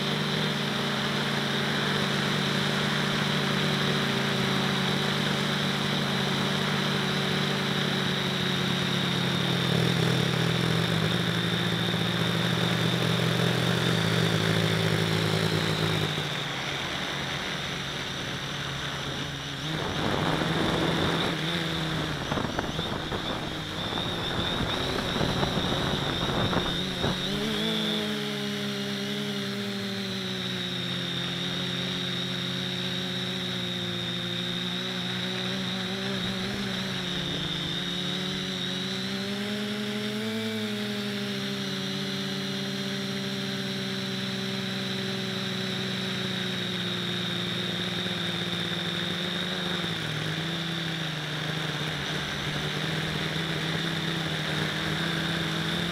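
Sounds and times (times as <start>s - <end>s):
drone propellers buzzing: 0.0s - 55.9s.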